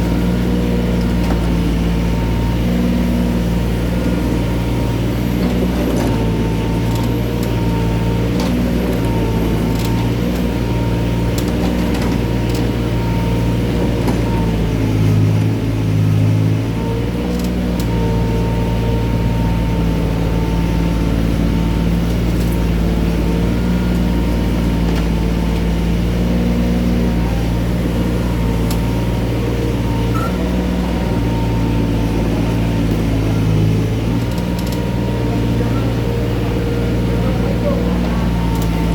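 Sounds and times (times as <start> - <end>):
mini excavator engine running: 0.0 - 38.9.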